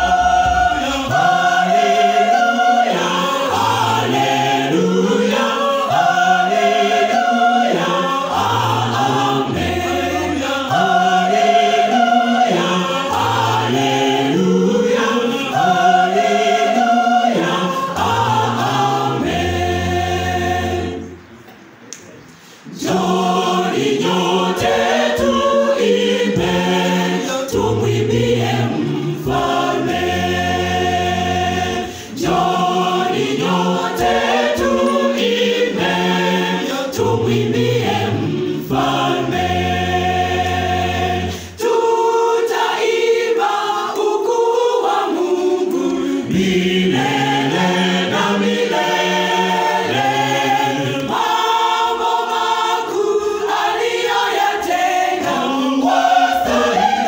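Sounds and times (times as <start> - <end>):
choir singing in harmony: 0.0 - 21.6, 22.4 - 57.0.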